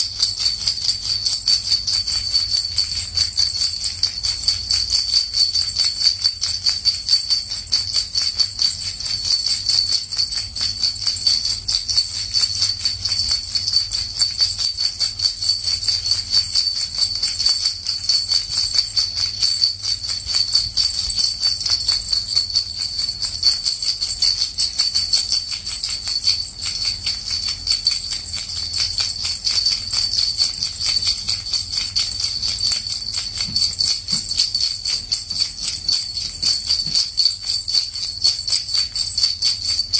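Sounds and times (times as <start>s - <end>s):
small bells jingling: 0.0s - 39.9s.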